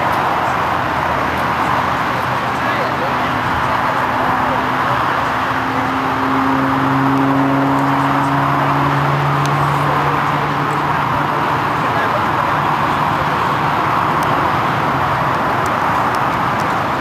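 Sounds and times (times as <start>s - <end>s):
passing vehicle engine hum: 0.0s - 17.0s
road traffic roar: 0.0s - 17.0s.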